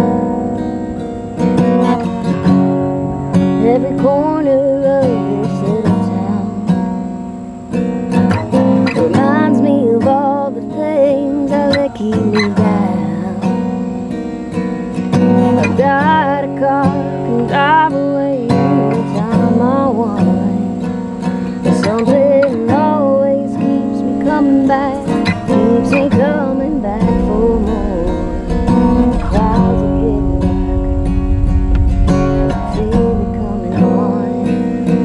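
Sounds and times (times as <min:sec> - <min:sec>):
strummed acoustic guitar: 0:00.0 - 0:35.0
woman singing: 0:01.6 - 0:07.4, 0:08.1 - 0:35.0.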